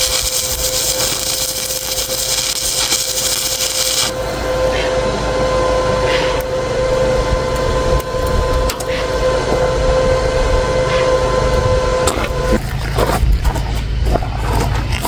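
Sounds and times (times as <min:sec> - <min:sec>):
arc welder buzzing and crackling: 0:00.0 - 0:15.0.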